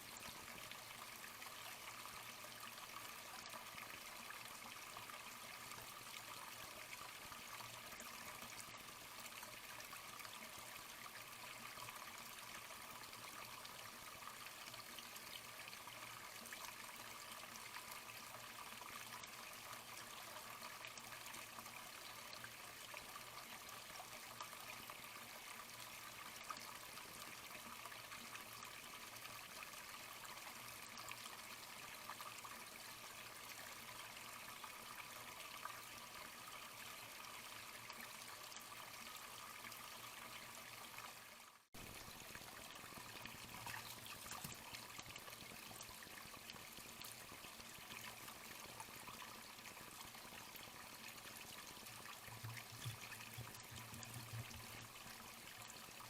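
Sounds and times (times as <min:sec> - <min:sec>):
faint trickle of running water: 0:00.0 - 0:56.0.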